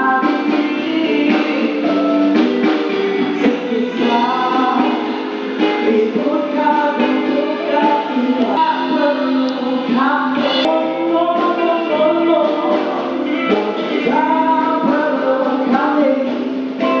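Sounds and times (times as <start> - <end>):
electric bass: 0.0 - 17.0
keyboard: 0.0 - 17.0
person singing: 0.0 - 17.0.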